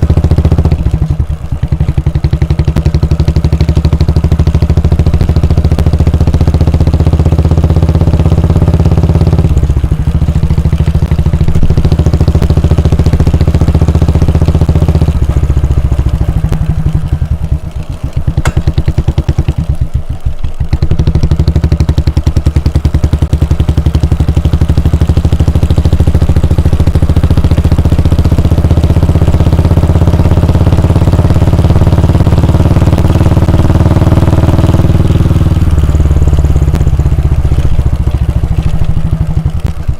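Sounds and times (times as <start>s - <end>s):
motorcycle engine thumping: 0.0s - 39.9s.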